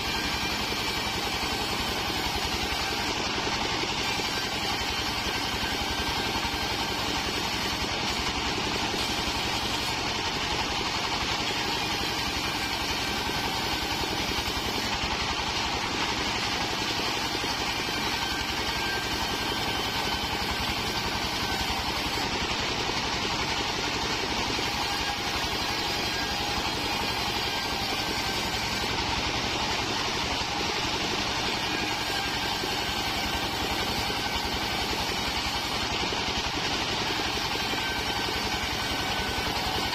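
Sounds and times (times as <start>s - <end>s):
band blade sawing wood: 0.0s - 39.9s
stationary engine running: 0.0s - 39.9s.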